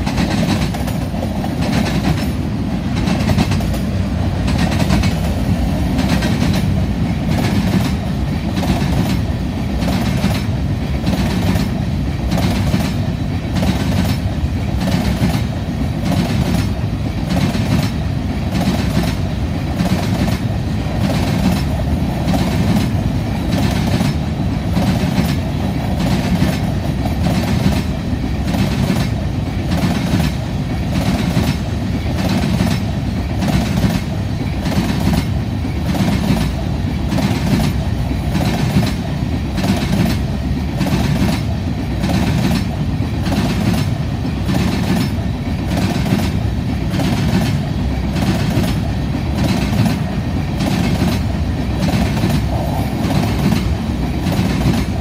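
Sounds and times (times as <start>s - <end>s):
train wheels rumbling on rail: 0.0s - 55.0s
wheels clickety-clack: 0.0s - 55.0s.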